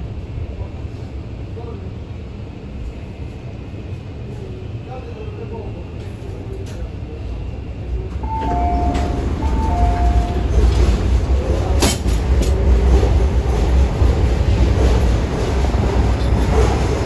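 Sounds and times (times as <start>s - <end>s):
metro train low rumble: 0.0s - 17.0s.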